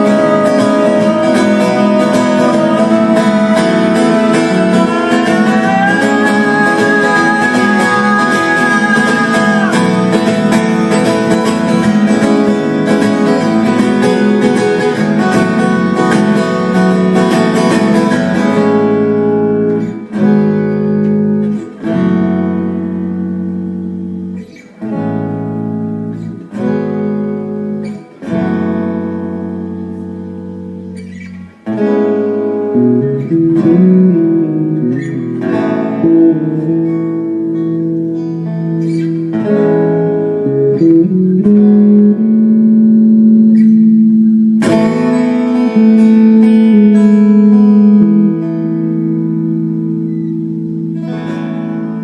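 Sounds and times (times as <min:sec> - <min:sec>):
acoustic guitar chords: 0:00.0 - 0:52.0.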